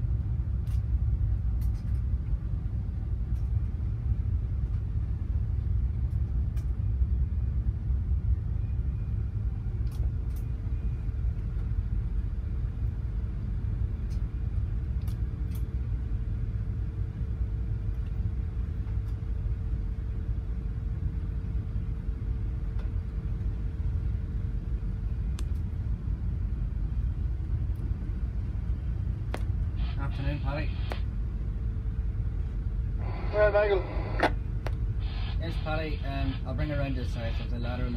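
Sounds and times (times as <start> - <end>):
ship engine low rumble: 0.0 - 37.9
thin steady hum: 0.0 - 37.9.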